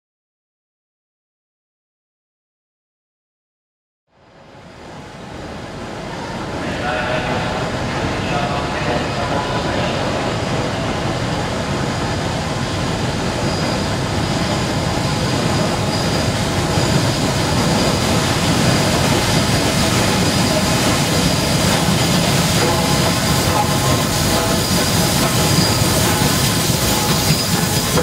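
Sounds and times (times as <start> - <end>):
rumble of trains: 4.1 - 28.0.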